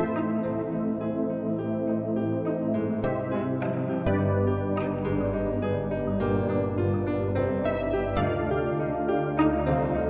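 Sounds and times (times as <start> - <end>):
calm new-age music: 0.0 - 10.0.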